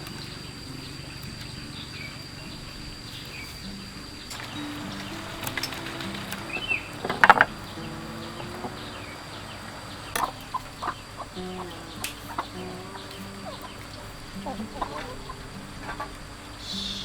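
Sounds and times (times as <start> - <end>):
chickens clucking: 0.0 - 17.0
soft background music: 0.0 - 17.0.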